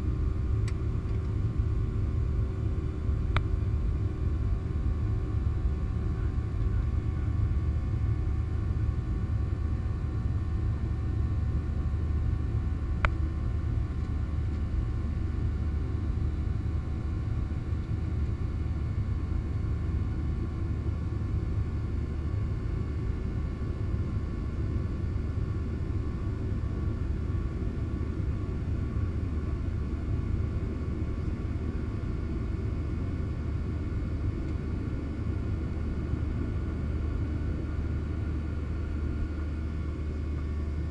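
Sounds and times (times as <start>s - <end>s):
airliner engines rumbling in flight: 0.0s - 40.9s.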